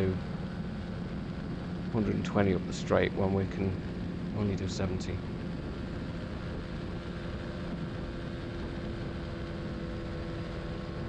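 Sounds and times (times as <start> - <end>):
motorcycle engine running: 0.0 - 11.0
wind rush over microphone: 0.0 - 11.0.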